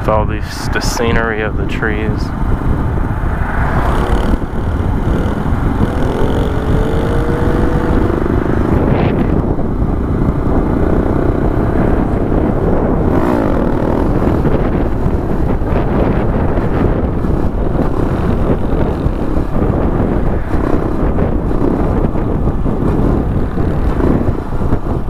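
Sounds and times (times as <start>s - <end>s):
wind rumble on microphone: 0.0s - 25.0s
motorcycle engine running: 1.6s - 25.0s.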